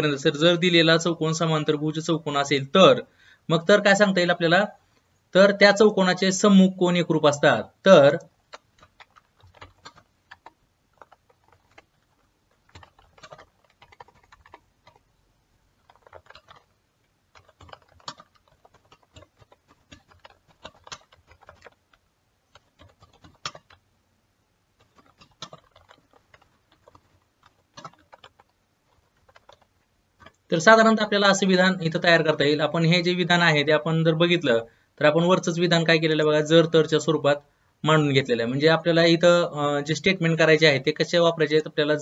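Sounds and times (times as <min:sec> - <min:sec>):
faint keyboard typing: 0:00.0 - 0:23.9, 0:24.6 - 0:42.0.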